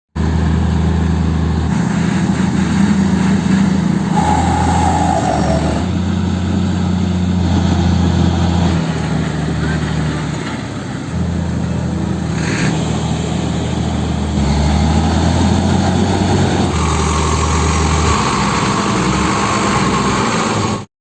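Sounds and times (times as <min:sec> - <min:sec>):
heavy diesel engine running: 0:00.2 - 0:20.9.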